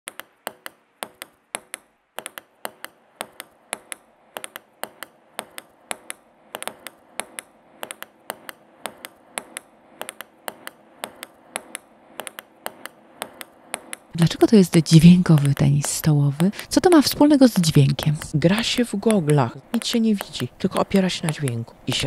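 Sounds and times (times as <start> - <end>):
table tennis ball clicking: 0.1 - 22.0.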